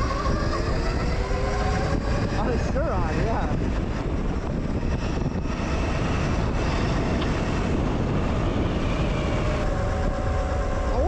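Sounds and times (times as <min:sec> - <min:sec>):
electric motor whine: 0:00.0 - 0:11.0
wind rush on microphone: 0:00.0 - 0:11.0.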